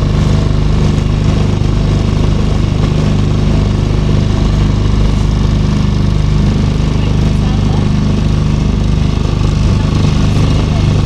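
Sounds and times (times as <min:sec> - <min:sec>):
motorboat engine humming: 0:00.0 - 0:11.0.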